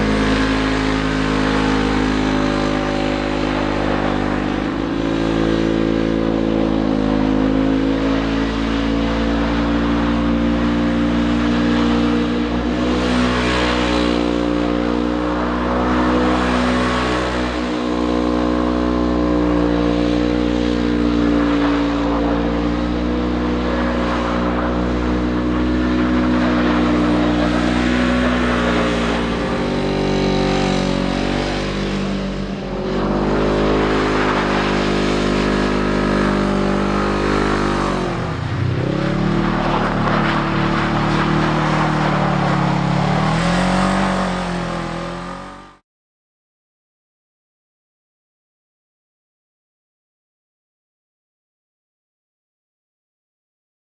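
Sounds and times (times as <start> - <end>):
engine running hard: 0.0 - 45.8.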